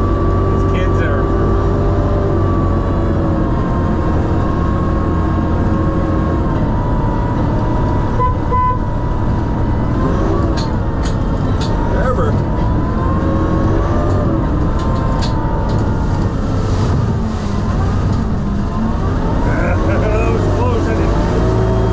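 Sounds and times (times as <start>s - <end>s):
diesel engine rumbling with whine: 0.0s - 21.9s.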